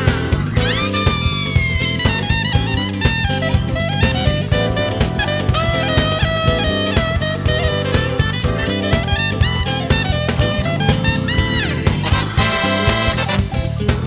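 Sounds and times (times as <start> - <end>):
drum kit: 0.0 - 14.0
guitar: 0.0 - 14.0
saxophone melody: 0.0 - 14.0.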